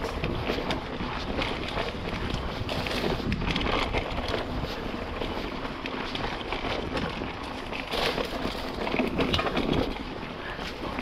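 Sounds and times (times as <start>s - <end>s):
tyre and trail noise: 0.0s - 11.0s
wind buffeting microphone: 0.0s - 11.0s.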